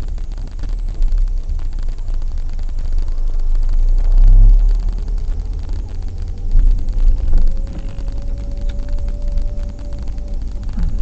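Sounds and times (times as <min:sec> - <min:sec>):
car rumbling slowly: 0:00.0 - 0:11.0
faint thin whine: 0:00.0 - 0:11.0.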